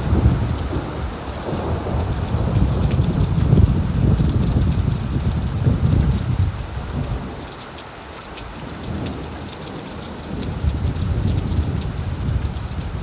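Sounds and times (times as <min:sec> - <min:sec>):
low rumble of thunder: 0:00.0 - 0:07.6, 0:08.5 - 0:13.0
heavy rain on a tin roof: 0:00.0 - 0:13.0.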